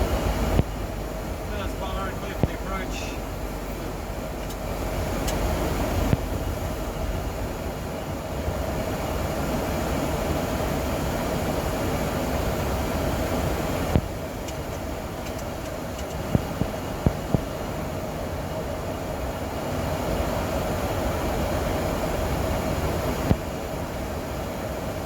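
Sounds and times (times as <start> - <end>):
air conditioning hum: 0.0 - 25.0.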